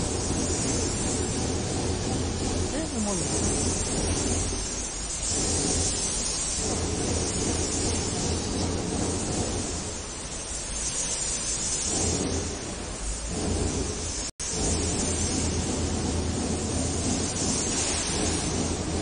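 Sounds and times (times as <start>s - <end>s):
hiss-like rushing noise: 0.0s - 19.0s.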